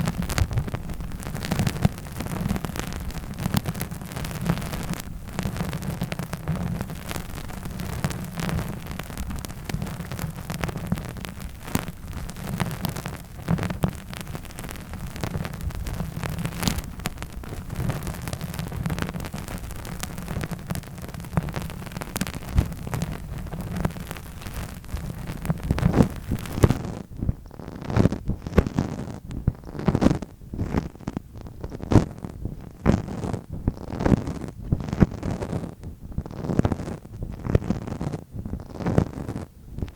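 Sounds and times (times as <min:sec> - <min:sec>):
crackling scratching with clicks: 0:00.0 - 0:39.9.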